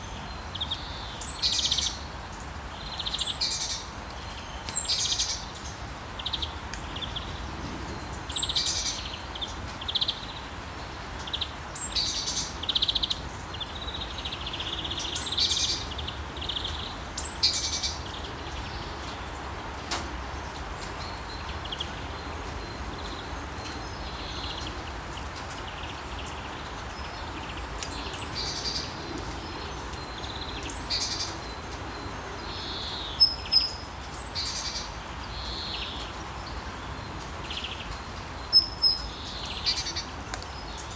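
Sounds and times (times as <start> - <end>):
rain hiss: 0.2 - 40.9.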